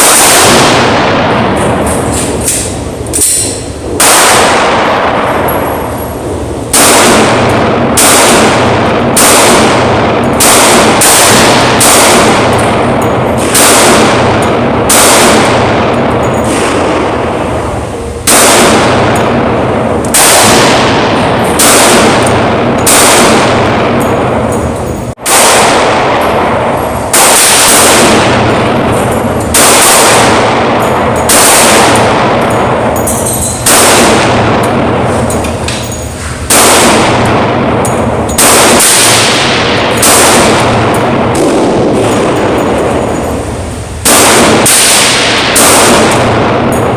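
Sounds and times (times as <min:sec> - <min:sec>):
pistol shots: 0:00.0 - 0:46.9.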